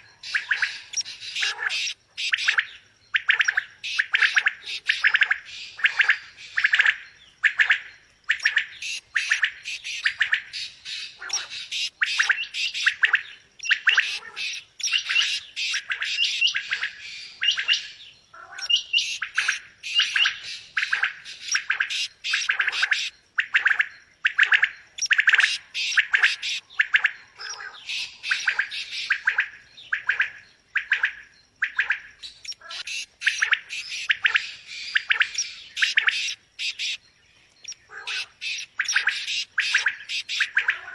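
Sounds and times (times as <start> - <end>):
quail calling: 0.0 - 6.1, 7.5 - 17.8, 18.4 - 37.0, 37.6 - 40.9.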